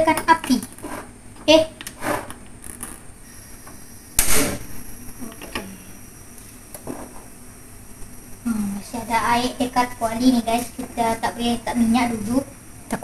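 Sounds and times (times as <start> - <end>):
gas burner igniting: 1.8 - 13.0.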